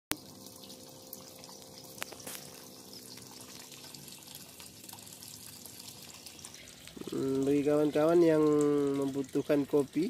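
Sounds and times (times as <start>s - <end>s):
water trickling into pond: 0.1s - 10.0s.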